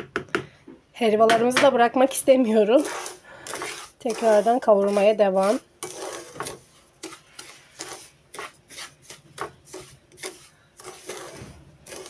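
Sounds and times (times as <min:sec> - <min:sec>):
wooden spatula scraping a pan: 0:02.1 - 0:12.0.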